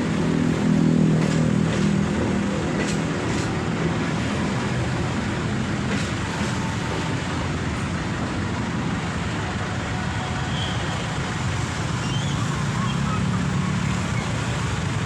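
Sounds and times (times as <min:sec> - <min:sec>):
train passing rumble: 0:00.0 - 0:15.0.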